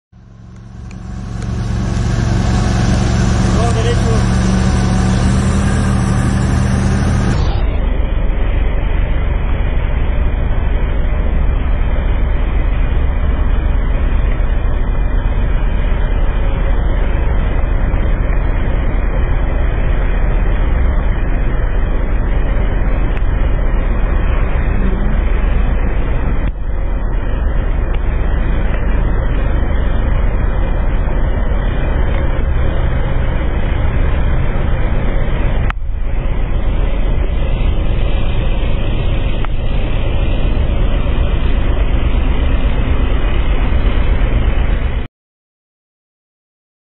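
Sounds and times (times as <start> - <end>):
dull steady rumble: 0.1 - 45.1
vehicle engine running: 0.1 - 45.1.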